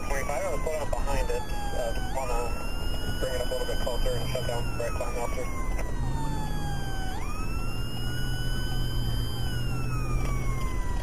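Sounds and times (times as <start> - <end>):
police siren wailing: 0.0 - 11.0.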